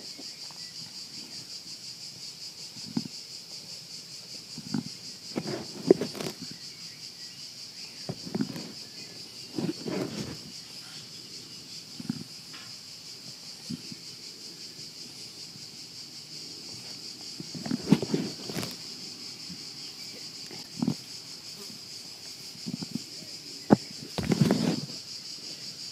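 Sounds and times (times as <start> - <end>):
insects chirping: 0.0 - 25.9.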